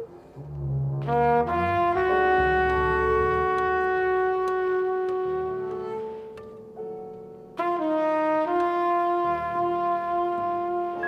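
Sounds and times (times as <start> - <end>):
background music held chord: 0.0 - 11.0.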